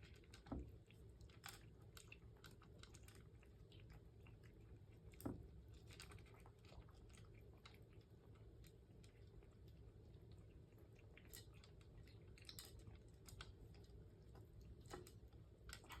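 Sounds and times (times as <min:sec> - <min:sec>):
cat chewing food: 0:00.0 - 0:16.0.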